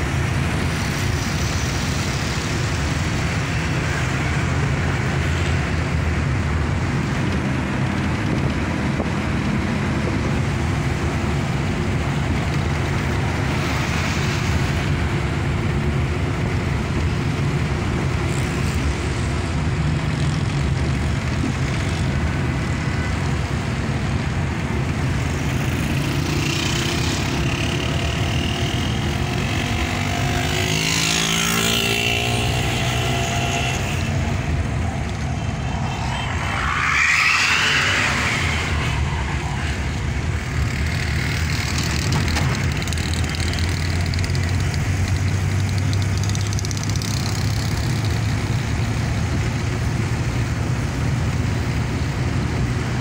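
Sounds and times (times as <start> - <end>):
road and traffic noise: 0.0 - 53.0.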